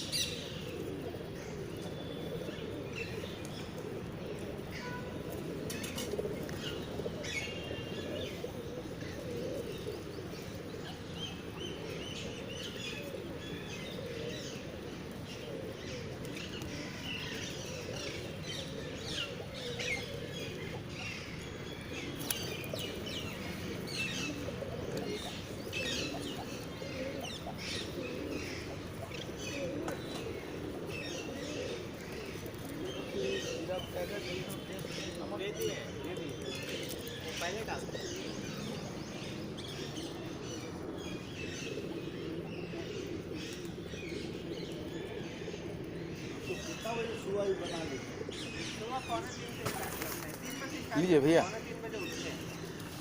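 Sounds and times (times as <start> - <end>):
pigeons cooing: 0.0 - 53.0.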